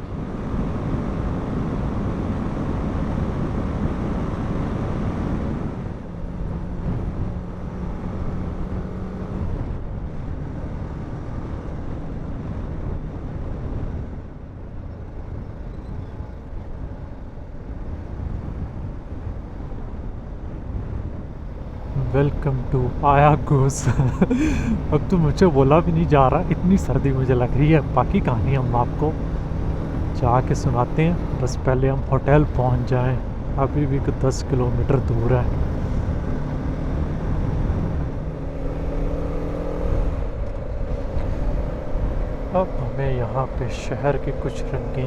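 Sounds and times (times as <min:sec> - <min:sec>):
wind and road noise: 0:00.0 - 0:45.0.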